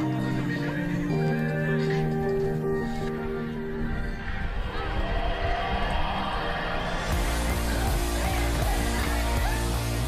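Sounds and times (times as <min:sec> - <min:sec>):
background music with held tones: 0:00.0 - 0:10.0.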